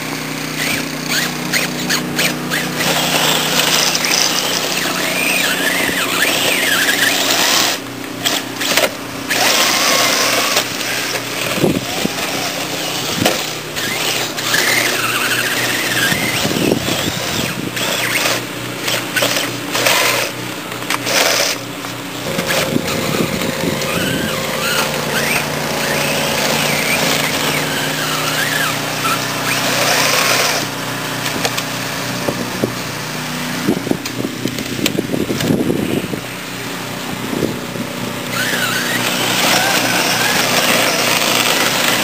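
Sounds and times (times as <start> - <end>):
electric motor whining: 0.0 - 42.0.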